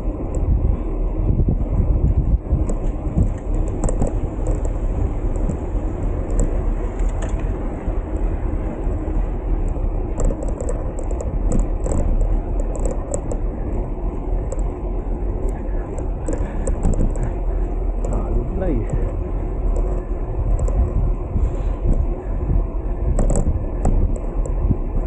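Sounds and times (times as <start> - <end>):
road noise: 0.0 - 25.0
wind buffeting microphone: 0.0 - 25.0.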